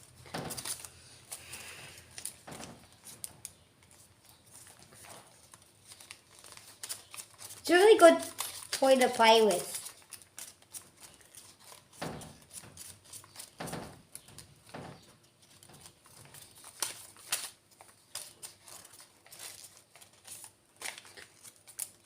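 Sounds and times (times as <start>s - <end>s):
paper rustling and crinkling: 0.0s - 22.0s.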